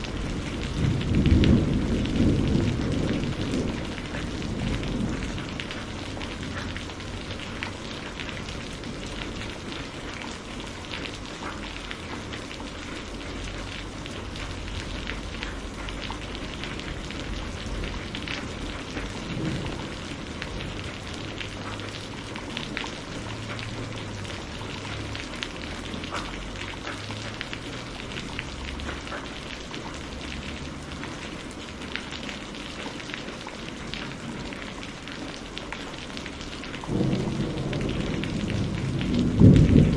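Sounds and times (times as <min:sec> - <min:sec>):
thunder rumbling: 0:00.0 - 0:29.1, 0:36.6 - 0:39.9
steady rain falling: 0:00.0 - 0:39.9.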